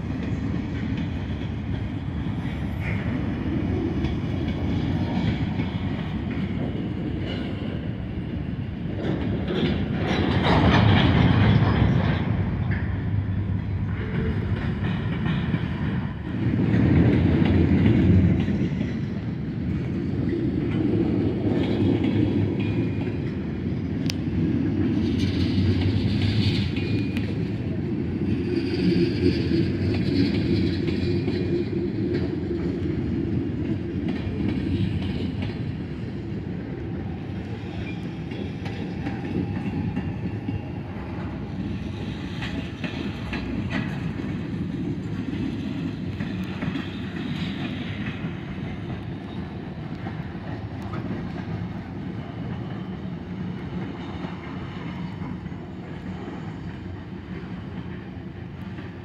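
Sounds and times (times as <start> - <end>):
clickety-clack over rail joints: 0.0 - 59.0
train wheels rumbling on rails: 0.0 - 59.0.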